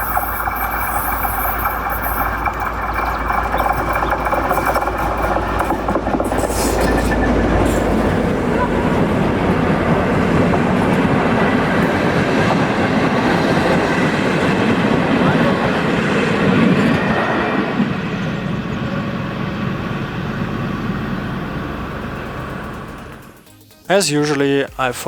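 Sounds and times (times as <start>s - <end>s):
train wheels rolling on rails: 0.0s - 23.4s
diesel locomotive engine: 0.0s - 25.0s.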